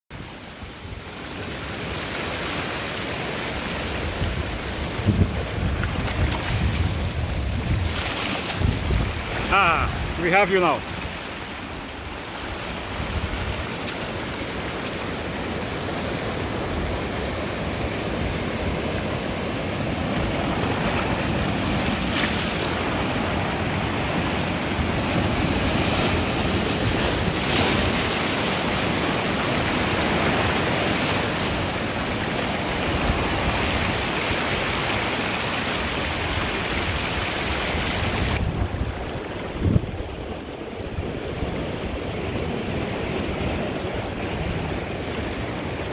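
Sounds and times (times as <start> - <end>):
surf breaking over rocks: 1.0 - 45.9.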